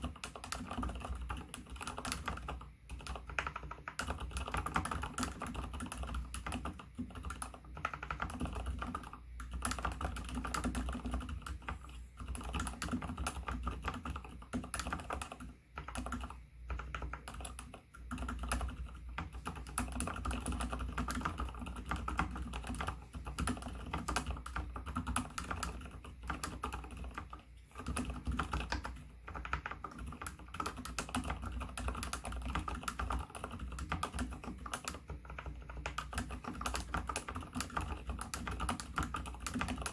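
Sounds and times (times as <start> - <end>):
fingernails clicking on keycaps: 0.0 - 39.9
muted keystrokes on a keyboard: 0.0 - 39.9.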